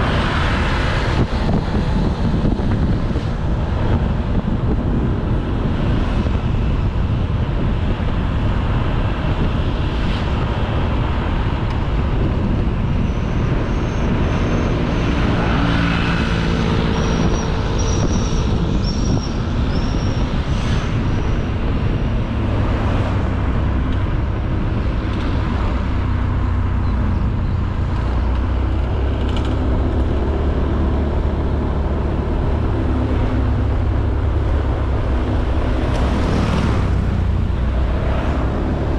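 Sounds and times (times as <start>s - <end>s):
wind rush and road noise: 0.0s - 38.9s.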